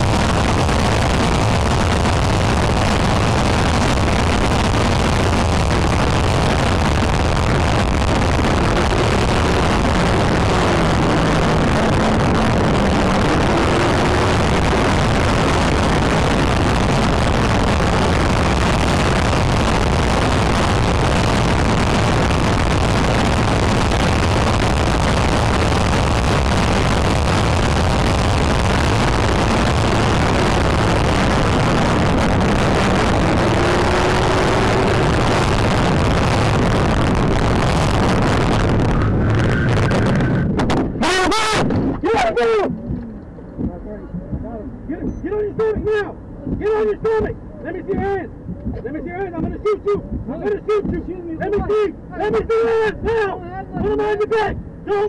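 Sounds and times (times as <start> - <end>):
vehicle road and wind rush: 0.0 - 55.0.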